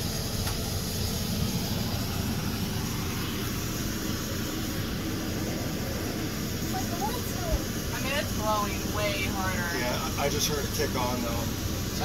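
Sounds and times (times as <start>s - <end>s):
air conditioner blower rushing: 0.0s - 12.0s.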